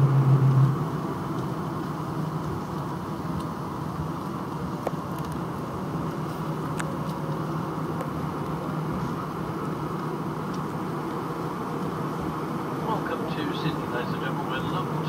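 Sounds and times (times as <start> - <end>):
airplane cabin rumble: 0.0 - 9.9, 12.0 - 15.0.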